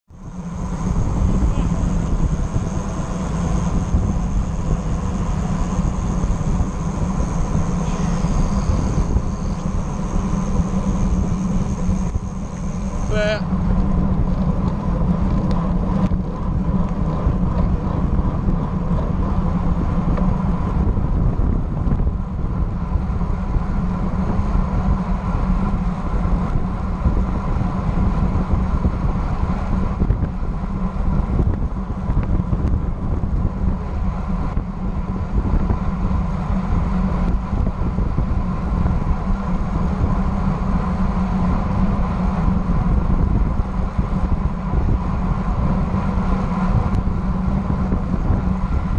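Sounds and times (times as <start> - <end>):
tyre and road rush: 0.0 - 48.9
wind buffeting microphone: 0.1 - 48.9.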